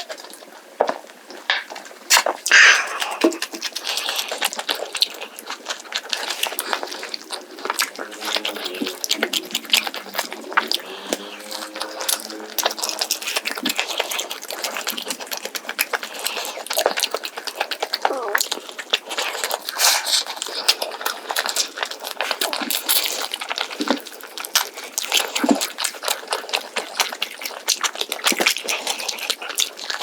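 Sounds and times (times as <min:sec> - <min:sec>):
crunching and chewing: 0:00.0 - 0:30.0.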